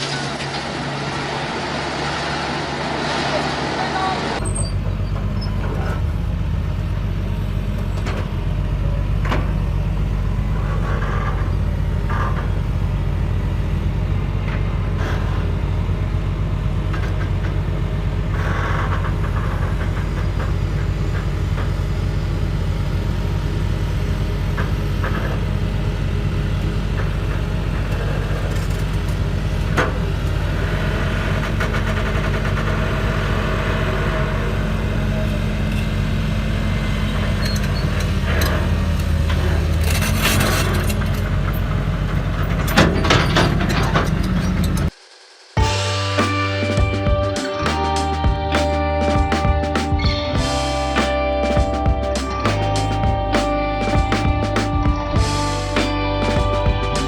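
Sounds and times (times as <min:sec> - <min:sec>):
large vehicle engine running: 0:00.0 - 0:57.0.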